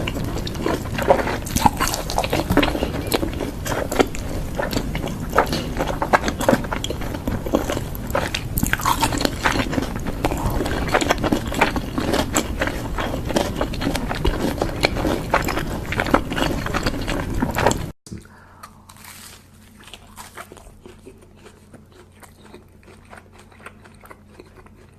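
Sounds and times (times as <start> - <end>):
chewing and lip-smacking: 0.0 - 18.0, 18.7 - 24.9.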